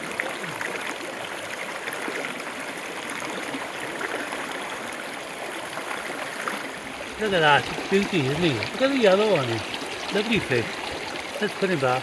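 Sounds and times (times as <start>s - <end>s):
small stream flowing: 0.0s - 12.0s.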